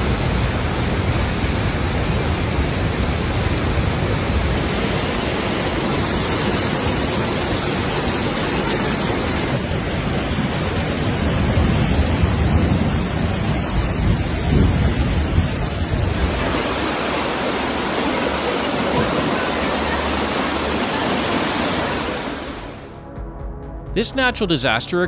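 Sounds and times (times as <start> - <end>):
rushing floodwater: 0.0 - 22.8.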